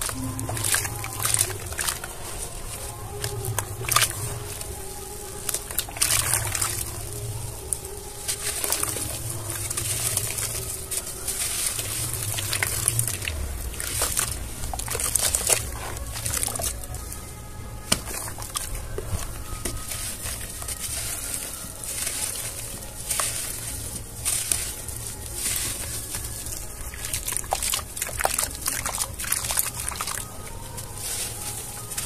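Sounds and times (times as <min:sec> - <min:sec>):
hands sloshing in water: 0:00.0 - 0:17.3, 0:17.9 - 0:32.0
water splashes and squelches: 0:00.0 - 0:32.0.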